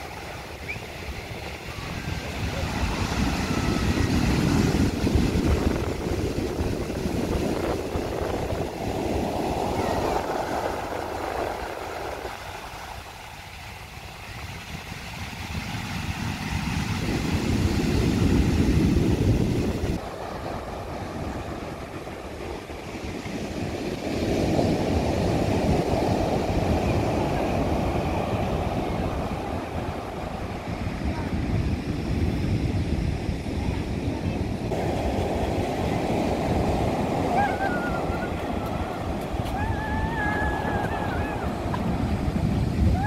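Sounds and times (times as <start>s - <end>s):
surf breaking on beach: 0.0s - 43.0s
wind rumble on microphone: 0.0s - 43.0s.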